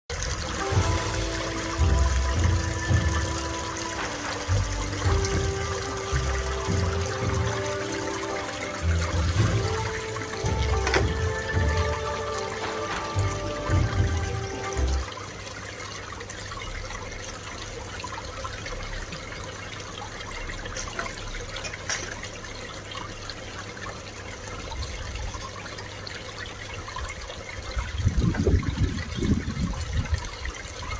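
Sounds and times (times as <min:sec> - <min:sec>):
pond water trickling and splashing: 0:00.1 - 0:30.9.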